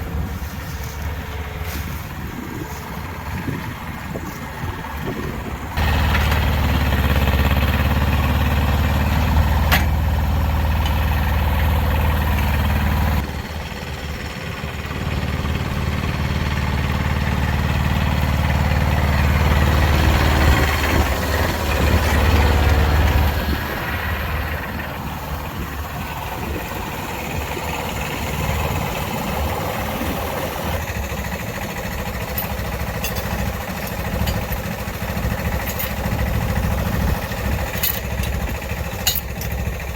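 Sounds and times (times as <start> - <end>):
faint rough rumble: 0.0 - 39.9
vehicle engine running: 0.0 - 39.9.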